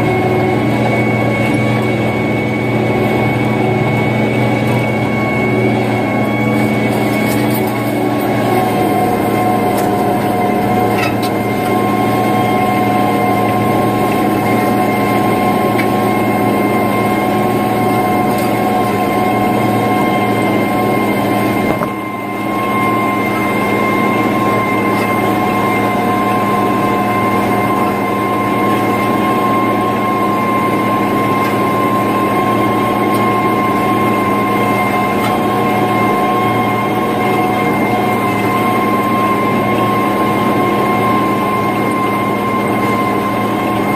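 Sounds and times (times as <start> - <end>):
steady whine: 0.0 - 43.9
tractor diesel engine drone: 0.0 - 43.9.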